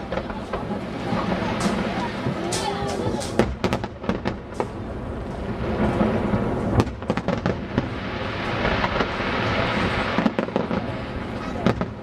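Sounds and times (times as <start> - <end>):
fireworks crackle and rumble: 0.0 - 12.0
sharp firework bangs: 0.0 - 12.0.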